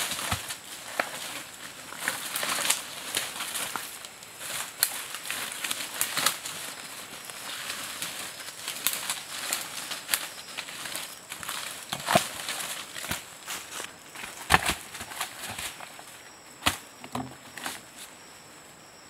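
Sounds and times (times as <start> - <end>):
dry leaves and bamboo rustling: 0.0 - 18.9.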